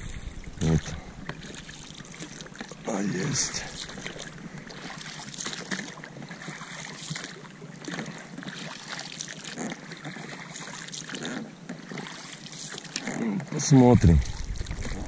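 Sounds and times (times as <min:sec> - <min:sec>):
oars splashing in water: 0:00.0 - 0:15.0
water lapping against boat: 0:00.0 - 0:15.0.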